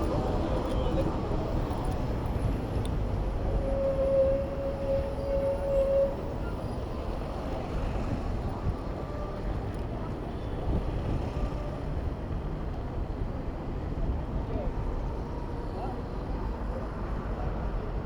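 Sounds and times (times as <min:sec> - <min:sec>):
city traffic noise: 0:00.0 - 0:18.0
wind rumbling on microphone: 0:00.0 - 0:18.0.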